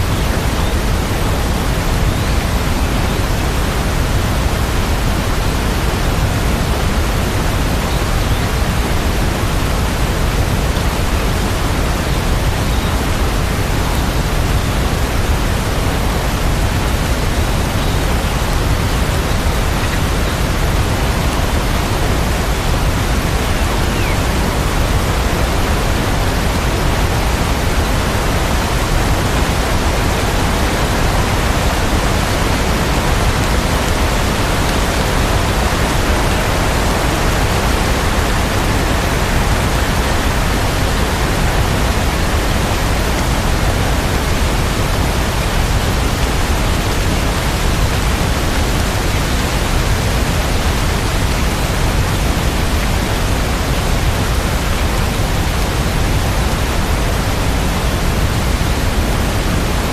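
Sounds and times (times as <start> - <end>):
steady dense rain: 0.0 - 59.9.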